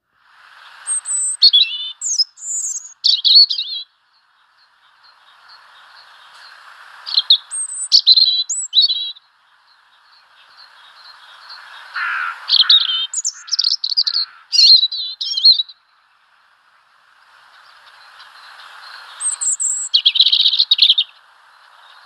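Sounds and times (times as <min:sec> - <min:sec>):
faint hiss: 0:00.0 - 0:13.6, 0:15.2 - 0:22.0
small bird chirping: 0:00.8 - 0:16.1, 0:17.2 - 0:22.0.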